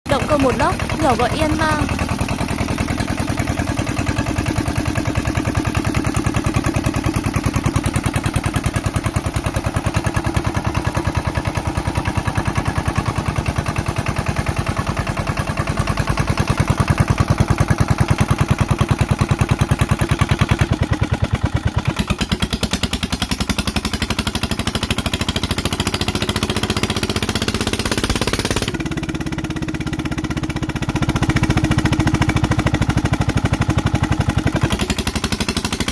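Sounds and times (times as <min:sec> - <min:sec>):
single-cylinder marine engine running: 0:00.1 - 0:35.9.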